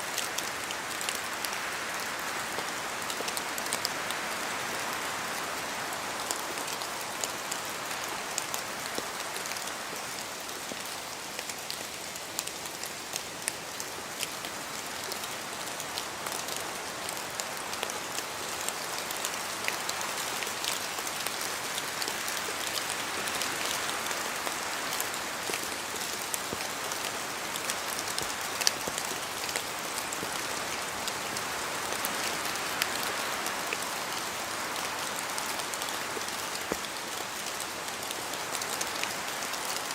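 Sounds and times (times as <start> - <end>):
steady rain hiss: 0.0 - 39.9
wind: 0.0 - 39.9.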